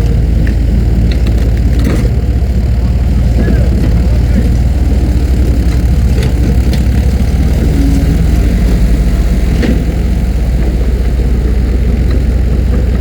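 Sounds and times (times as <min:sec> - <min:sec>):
heavy engine humming: 0:00.0 - 0:13.0.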